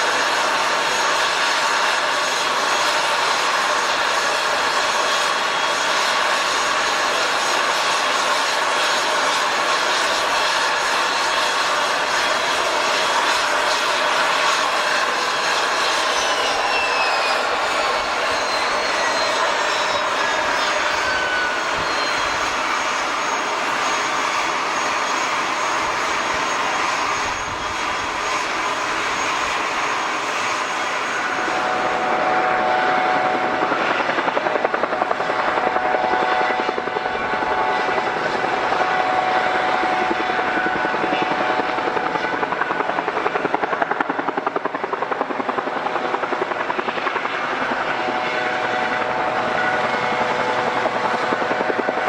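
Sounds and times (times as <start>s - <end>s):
aircraft engine whine: 0.0s - 52.0s.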